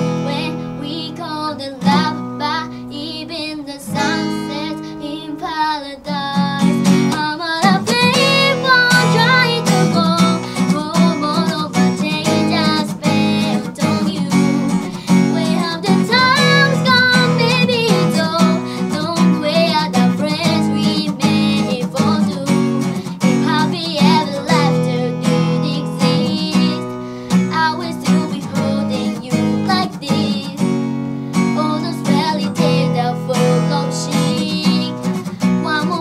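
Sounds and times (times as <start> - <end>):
strummed acoustic guitar: 0.0 - 36.0
woman singing pop song: 0.0 - 36.0.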